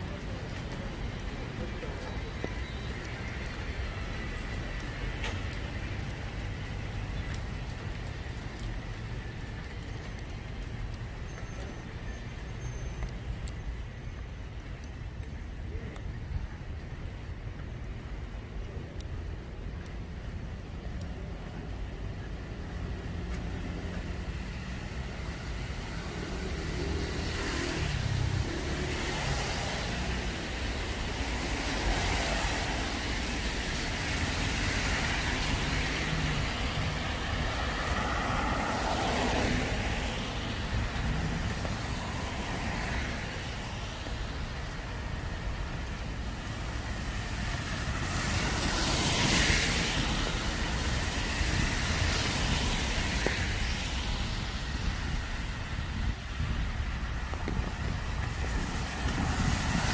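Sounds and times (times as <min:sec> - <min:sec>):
low traffic rumble: 0:00.0 - 0:59.9
tyres hissing on wet road: 0:00.0 - 0:59.9.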